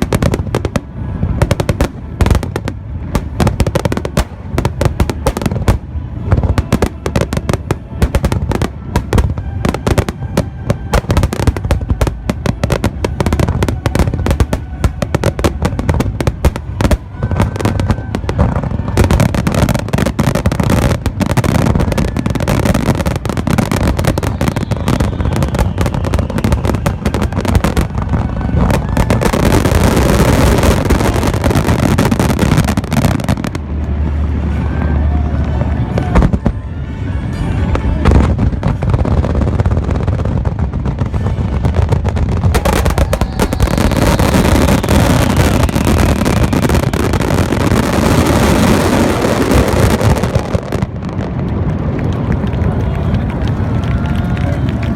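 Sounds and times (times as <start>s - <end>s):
fireworks bursting and crackling: 0.0s - 54.9s.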